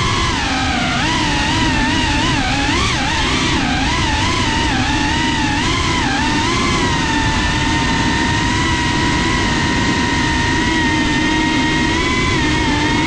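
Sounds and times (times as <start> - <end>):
drone motors whining: 0.0 - 13.0
prop wash and wind rushing: 0.0 - 13.0.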